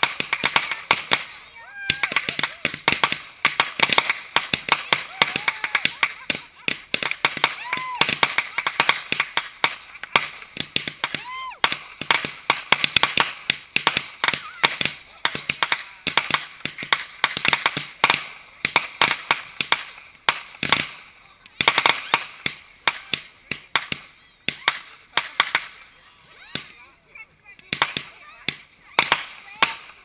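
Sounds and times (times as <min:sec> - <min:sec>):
fireworks crackling overhead: 0:00.0 - 0:30.0
fireworks pops and bangs: 0:00.0 - 0:30.0.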